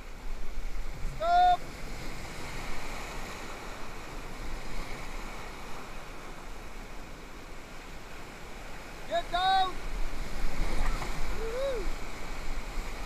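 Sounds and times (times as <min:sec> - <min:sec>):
whitewater rapids roaring: 0:00.7 - 0:13.0.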